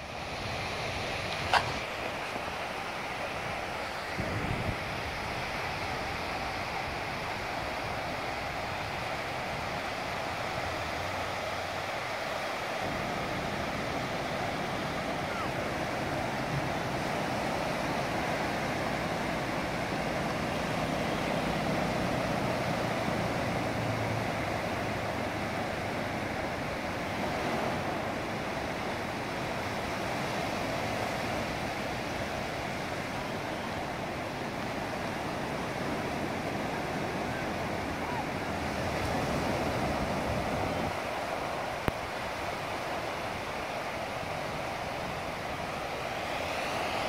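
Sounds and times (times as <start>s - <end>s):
sea waves breaking on sand: 0.0s - 47.0s.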